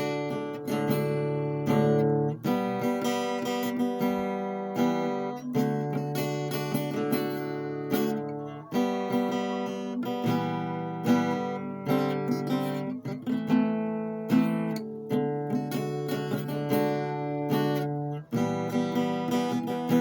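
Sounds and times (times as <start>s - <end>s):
strummed acoustic guitar chords: 0.0s - 20.0s.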